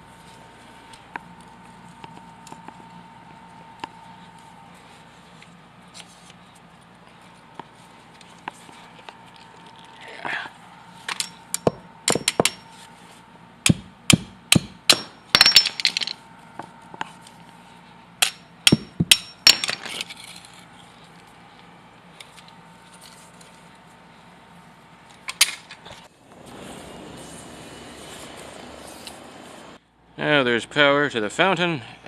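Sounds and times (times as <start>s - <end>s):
steady background noise: 0.0s - 32.0s.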